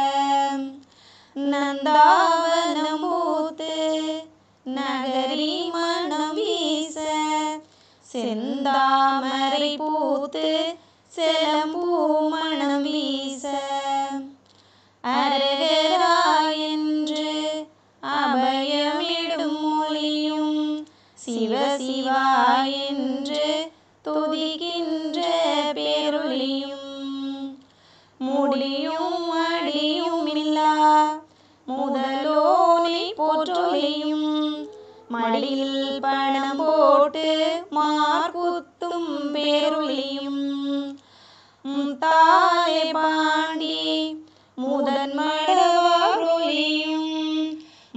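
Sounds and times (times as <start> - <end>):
woman singing unaccompanied: 0.0 - 14.4, 15.0 - 47.7.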